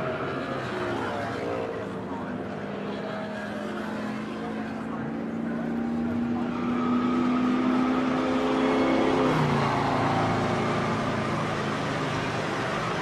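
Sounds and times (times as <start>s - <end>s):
racing car engine: 0.0s - 13.0s.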